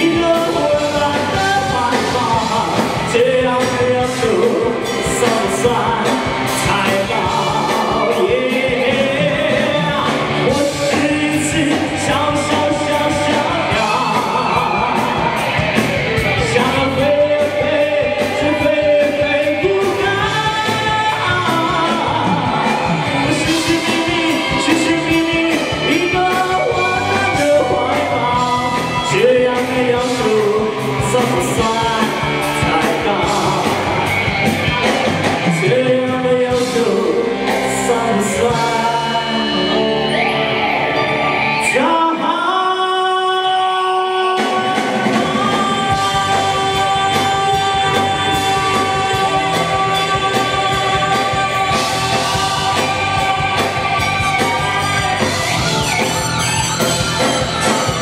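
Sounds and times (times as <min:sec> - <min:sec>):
live rock band with vocals: 0:00.0 - 0:58.0.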